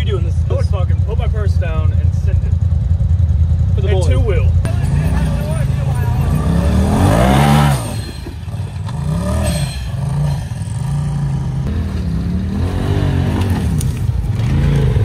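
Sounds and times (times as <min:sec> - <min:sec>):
off-road engines revving: 0:00.0 - 0:15.0.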